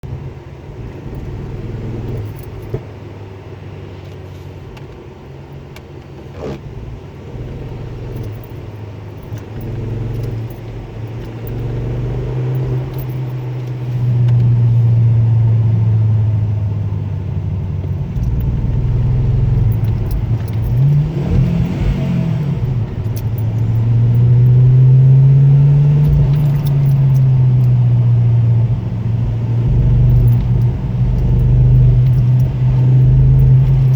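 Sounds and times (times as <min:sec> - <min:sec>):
car engine revving: 0:00.6 - 0:02.8, 0:06.2 - 0:33.9.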